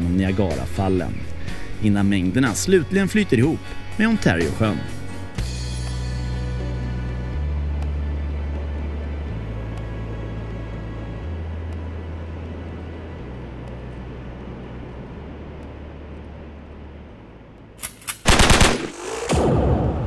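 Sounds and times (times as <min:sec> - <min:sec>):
soft music with deep bass notes: 0:00.0 - 0:16.3.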